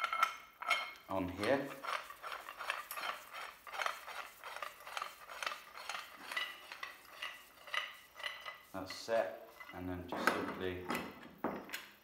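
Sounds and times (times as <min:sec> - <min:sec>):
metal pipe threads scraping and clinking: 0:00.0 - 0:11.8.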